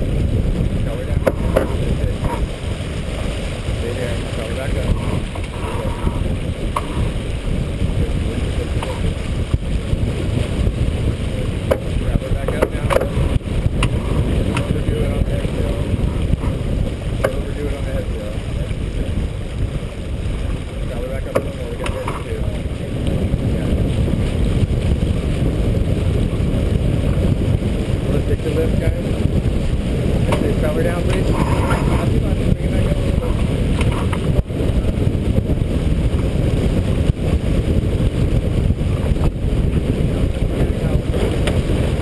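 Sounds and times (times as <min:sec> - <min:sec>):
water rushing past hull: 0:00.0 - 0:42.0
wind rumble on microphone: 0:00.0 - 0:42.0.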